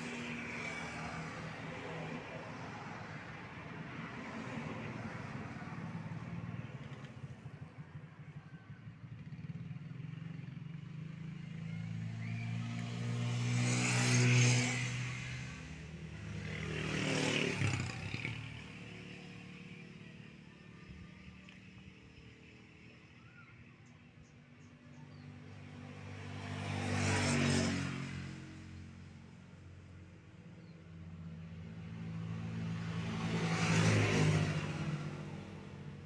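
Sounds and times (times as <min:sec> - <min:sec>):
traffic hum: 0:00.0 - 0:36.0
vehicles passing by: 0:00.0 - 0:36.0.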